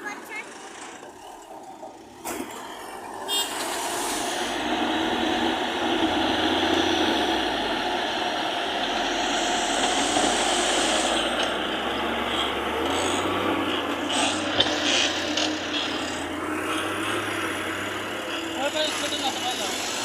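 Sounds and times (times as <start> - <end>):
diesel engine working under load: 0.0 - 20.0.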